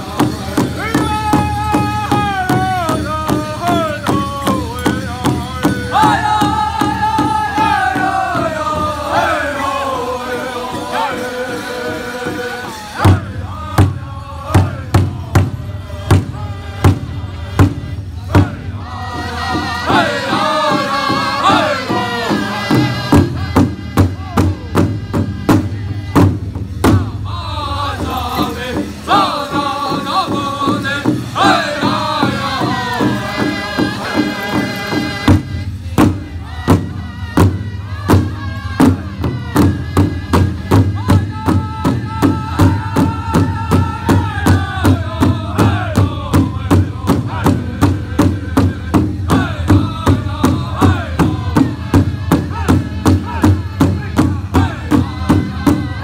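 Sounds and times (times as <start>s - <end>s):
high-pitched group singing: 0.0s - 56.0s
steady drumbeat: 0.0s - 56.0s.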